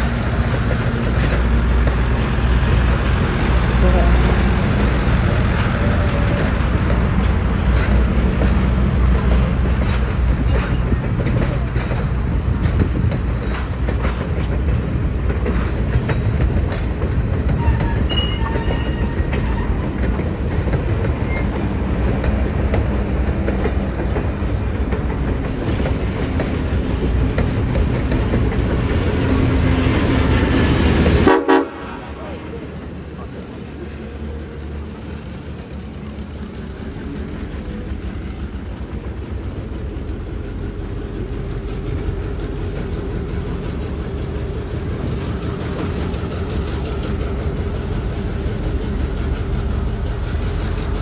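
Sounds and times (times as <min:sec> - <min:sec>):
diesel locomotive engine: 0:00.0 - 0:51.0
wheels clicking over rail joints: 0:00.0 - 0:51.0.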